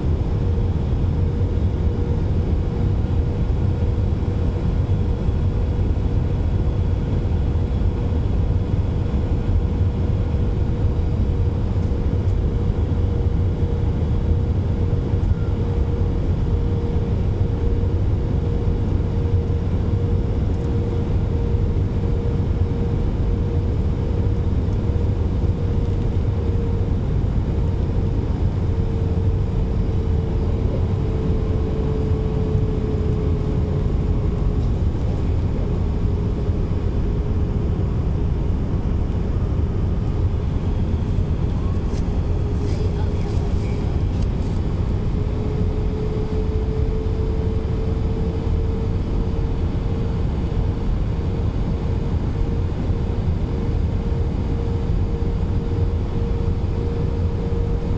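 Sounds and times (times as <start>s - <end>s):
jet engine and airflow rumble: 0.0s - 57.9s.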